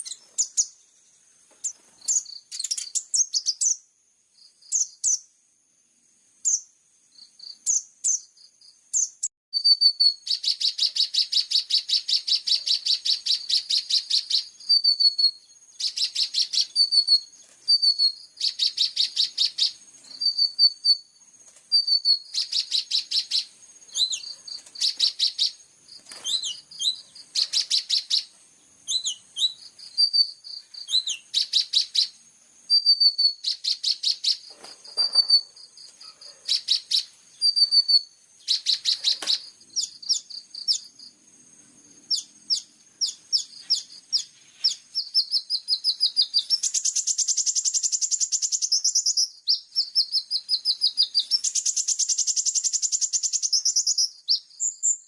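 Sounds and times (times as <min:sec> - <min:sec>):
songbird chirping trills: 0:00.0 - 0:55.0.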